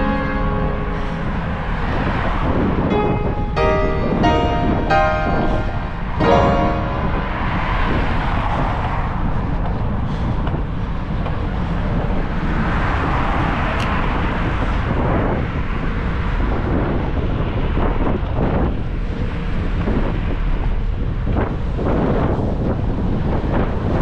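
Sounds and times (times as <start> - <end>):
vehicles passing: 0.0 - 19.6
wind rumble on microphone: 0.0 - 24.0.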